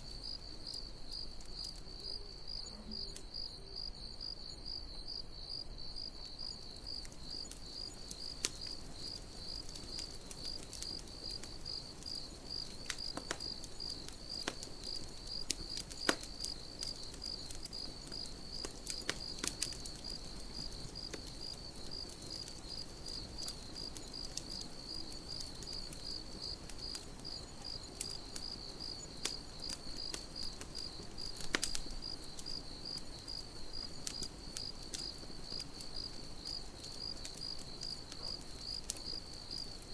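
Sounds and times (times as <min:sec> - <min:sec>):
campfire crackling and popping: 0:00.0 - 0:03.6, 0:05.6 - 0:39.9
crickets chirping: 0:00.0 - 0:39.9.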